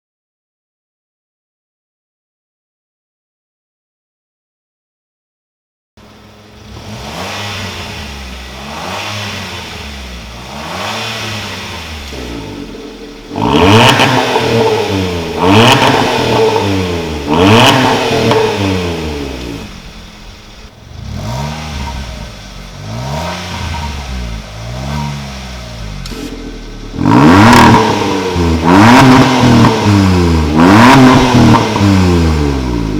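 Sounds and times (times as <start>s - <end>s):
car engine revving through exhaust: 6.0s - 32.9s.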